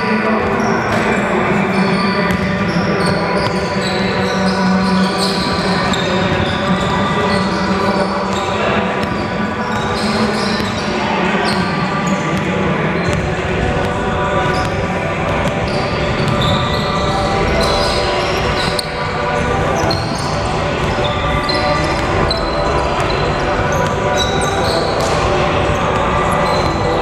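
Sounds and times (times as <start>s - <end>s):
sneakers squeaking: 0.0s - 27.0s.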